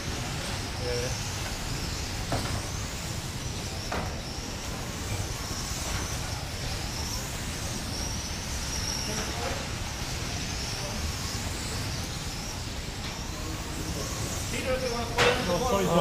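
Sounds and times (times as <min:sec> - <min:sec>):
rc car motors whining: 0:00.0 - 0:16.0.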